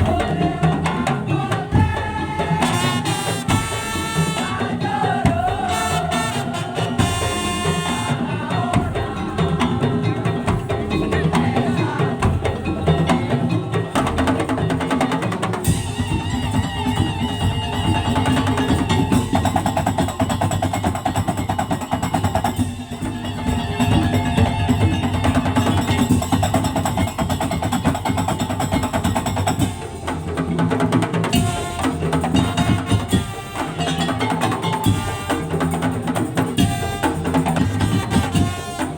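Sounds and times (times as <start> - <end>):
pitched melodic percussion: 0.0 - 38.9
wooden slit drums and drums: 0.0 - 38.9.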